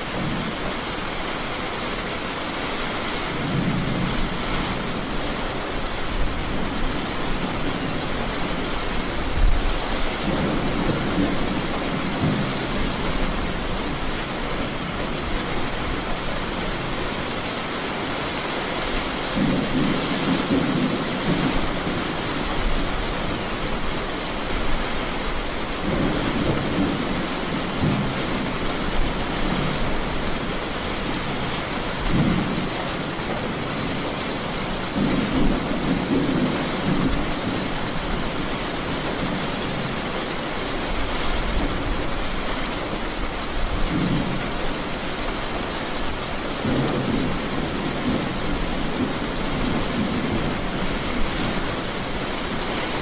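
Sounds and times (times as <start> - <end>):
thunder rumbling: 0.0 - 2.0, 3.1 - 17.4, 19.0 - 40.0, 45.9 - 53.0
steady rain: 0.0 - 53.0.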